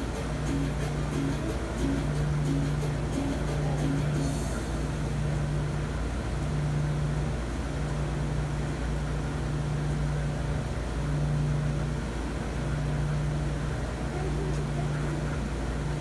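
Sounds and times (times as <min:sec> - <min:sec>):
washer drum rumble: 0:00.0 - 0:16.0
washer motor hum: 0:00.0 - 0:16.0.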